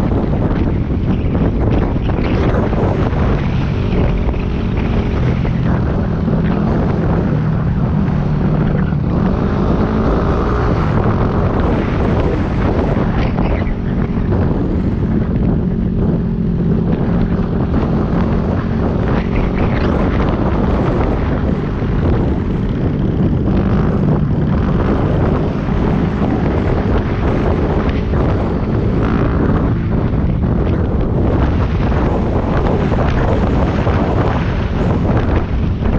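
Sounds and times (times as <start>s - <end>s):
motorcycle engine droning: 0.0s - 35.9s
wind buffeting microphone: 0.0s - 35.9s.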